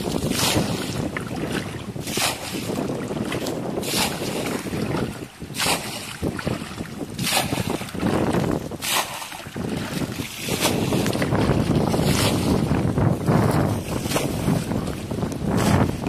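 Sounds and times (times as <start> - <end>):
water splashing from bucket: 0.0 - 16.0
wind rumble on microphone: 0.0 - 16.0.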